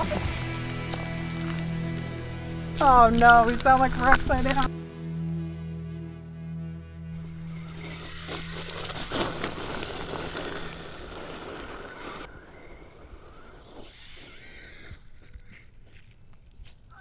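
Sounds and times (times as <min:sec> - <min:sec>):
tyres on gravel: 0:00.0 - 0:04.7, 0:07.2 - 0:17.0.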